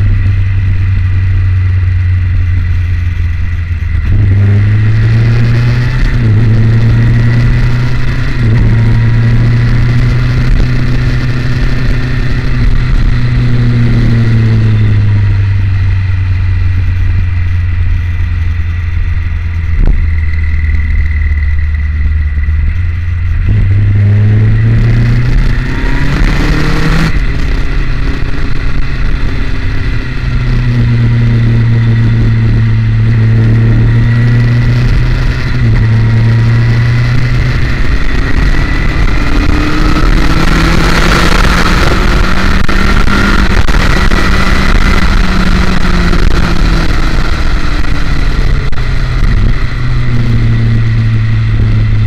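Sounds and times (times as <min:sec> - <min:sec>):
motorcycle engine running: 0:00.0 - 0:52.0
rushing wind: 0:00.0 - 0:52.0.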